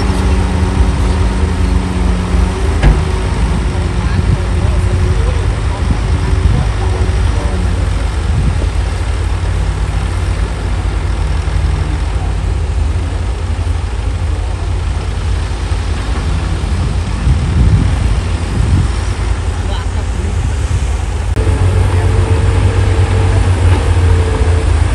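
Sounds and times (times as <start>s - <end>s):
diesel truck idling: 0.0s - 24.9s.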